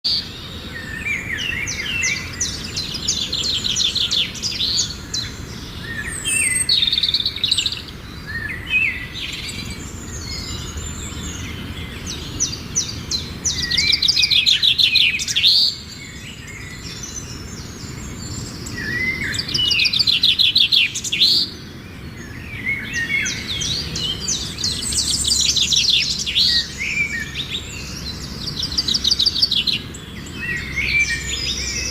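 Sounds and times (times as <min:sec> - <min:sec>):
songbirds trilling: 0:00.0 - 0:31.9.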